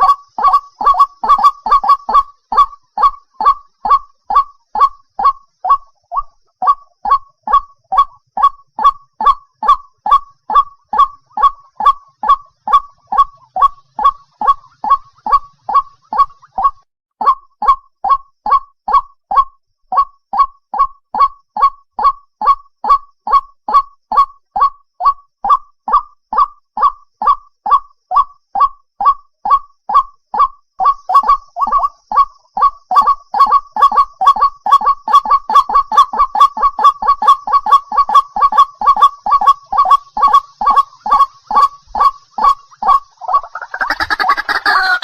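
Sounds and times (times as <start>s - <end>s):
waterhen calling: 0.0s - 27.4s, 30.4s - 45.0s.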